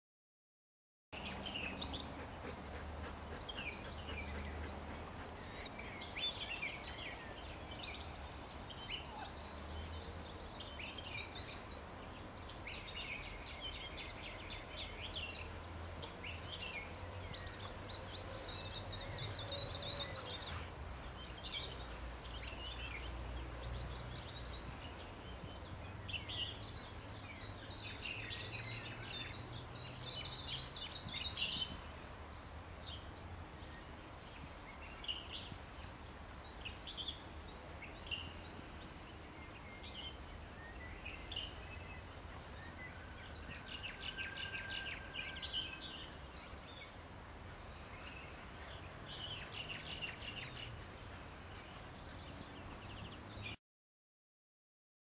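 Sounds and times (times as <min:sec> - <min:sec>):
birds chirping and trilling: 0:01.2 - 0:53.6.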